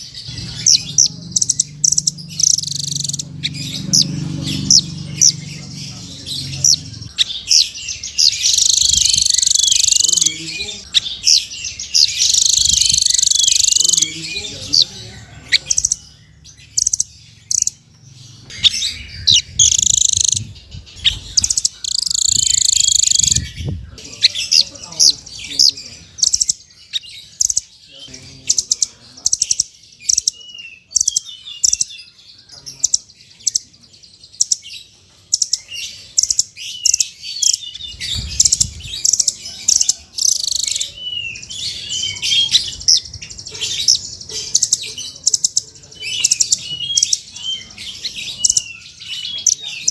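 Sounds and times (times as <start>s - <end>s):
songbird chirps and trills: 0.0s - 49.9s.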